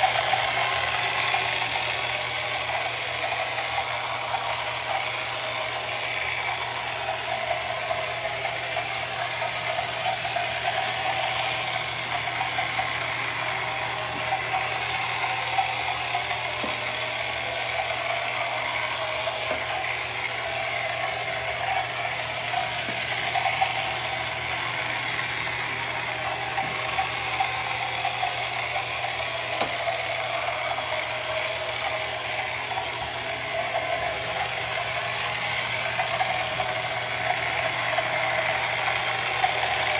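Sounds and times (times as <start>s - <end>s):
toy motor whirring rattle: 0.0s - 39.9s.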